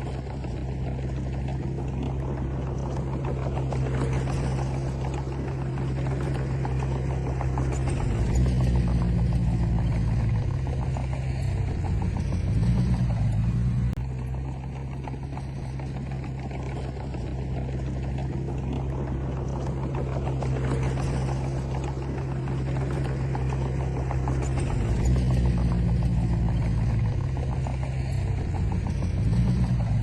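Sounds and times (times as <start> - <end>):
bulldozer diesel engine under load: 0.0 - 30.0.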